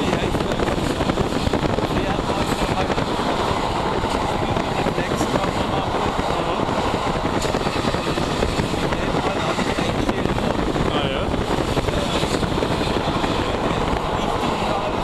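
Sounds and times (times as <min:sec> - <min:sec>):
freight train rumbling: 0:00.0 - 0:15.0
wind buffeting microphone: 0:00.0 - 0:15.0.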